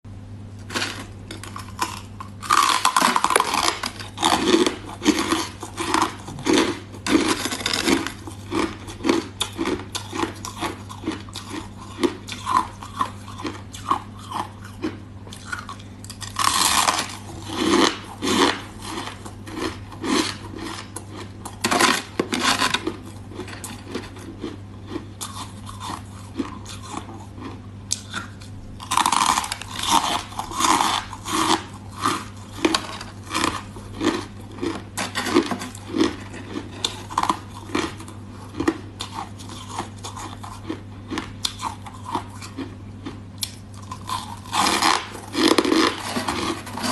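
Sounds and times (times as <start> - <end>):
steady low hum: 0.1 - 46.9
ice being chewed: 0.6 - 46.9.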